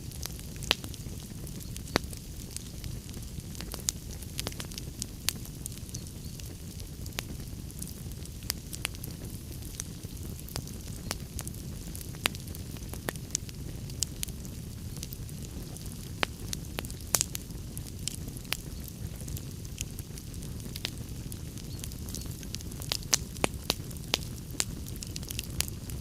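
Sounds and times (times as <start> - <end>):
burning wood crackling and popping: 0.0 - 26.0
flames rumbling: 0.0 - 26.0.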